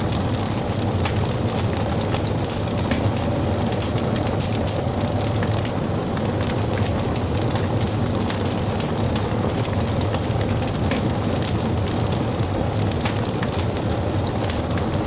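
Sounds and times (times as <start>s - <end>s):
wood crackling and popping: 0.0s - 15.0s.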